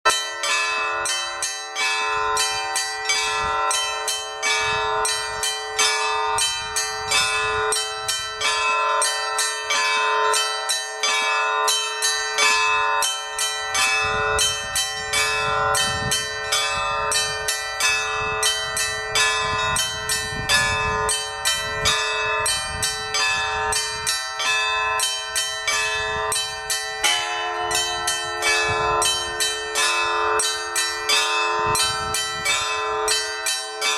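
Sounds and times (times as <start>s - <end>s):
hum of large bells: 0.1s - 33.9s
small bells struck rapidly: 0.1s - 33.9s.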